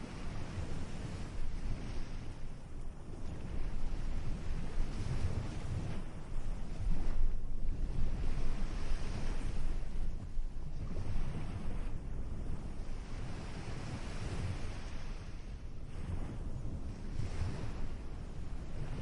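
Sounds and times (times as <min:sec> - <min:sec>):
wind on microphone: 0:00.0 - 0:19.0
ocean waves breaking: 0:03.3 - 0:19.0.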